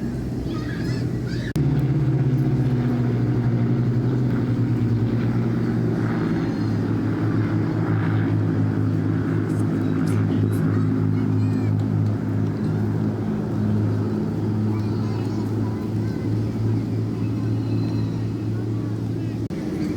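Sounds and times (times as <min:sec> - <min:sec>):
motorcycle engine running: 0:01.5 - 0:19.9.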